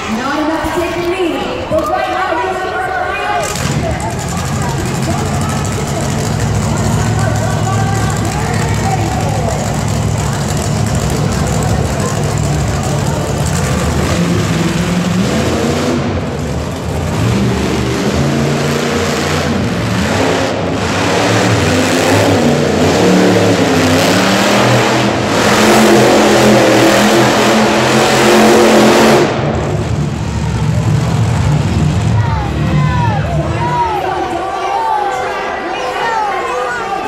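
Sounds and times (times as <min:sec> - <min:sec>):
truck engine revving hard: 0:03.3 - 0:34.2.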